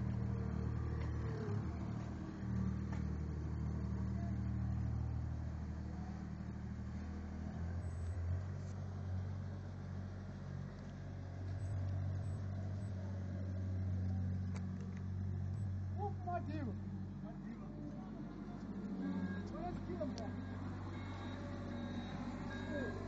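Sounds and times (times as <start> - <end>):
loader engine running: 0.0 - 23.0.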